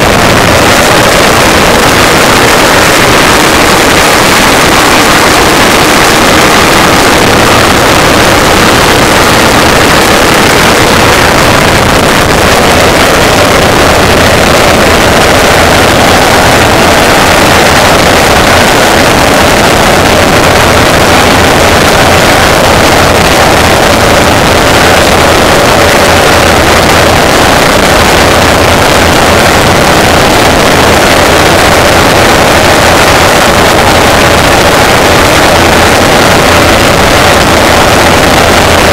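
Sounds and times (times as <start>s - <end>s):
pulse jet engines roaring: 0.0s - 38.9s.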